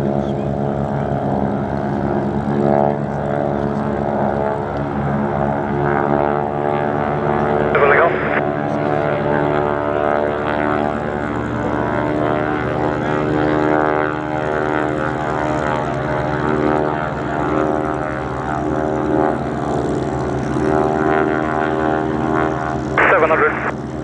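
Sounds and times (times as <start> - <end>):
biplane engines droning: 0.0 - 24.0.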